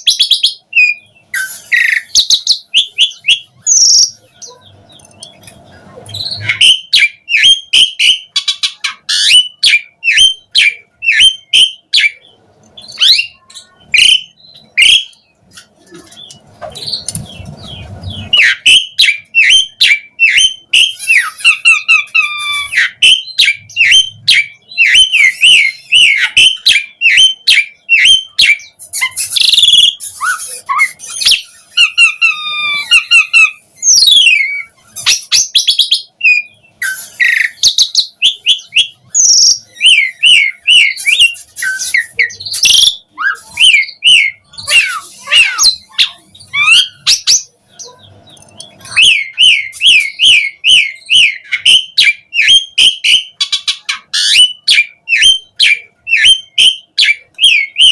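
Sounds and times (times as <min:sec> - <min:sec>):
starling singing: 0:00.0 - 0:57.9.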